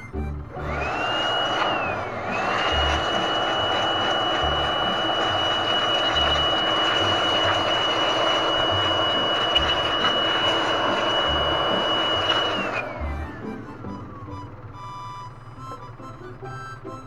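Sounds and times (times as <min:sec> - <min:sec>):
cordless blower whining: 0:00.0 - 0:17.0.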